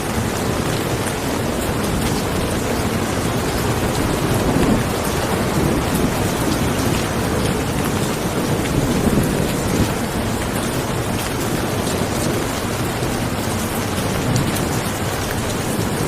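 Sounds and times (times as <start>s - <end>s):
heavy rainfall: 0.0s - 16.0s.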